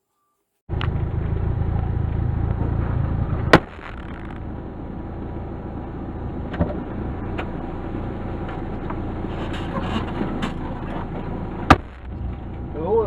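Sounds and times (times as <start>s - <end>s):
car engine running: 0.7s - 13.0s.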